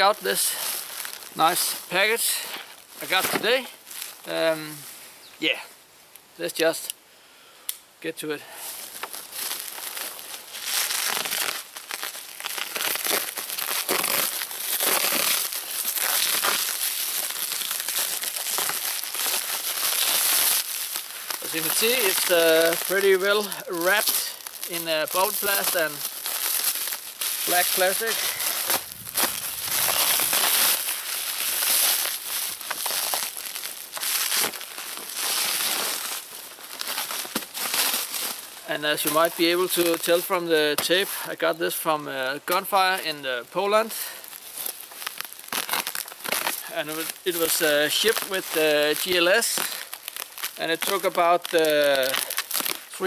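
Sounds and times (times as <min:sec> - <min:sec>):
plastic wrapping crinkling and tearing: 0:00.0 - 0:04.8, 0:08.7 - 0:41.8, 0:42.4 - 0:53.0.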